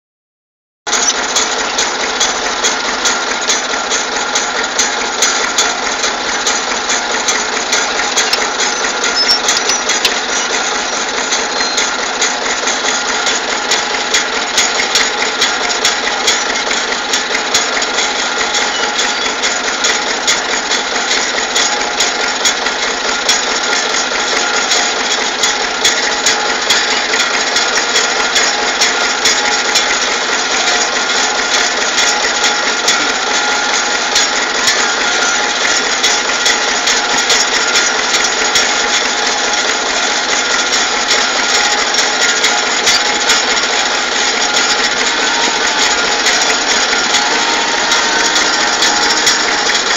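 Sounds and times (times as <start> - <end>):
tractor engine clattering: 0.9 - 49.9.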